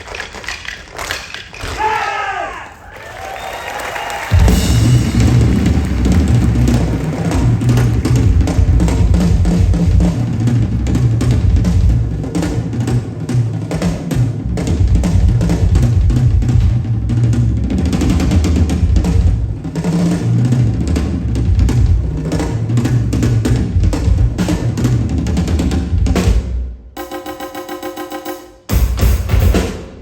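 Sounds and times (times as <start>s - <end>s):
fast dense drumming: 4.3s - 30.0s
heavy bass drum: 4.3s - 30.0s.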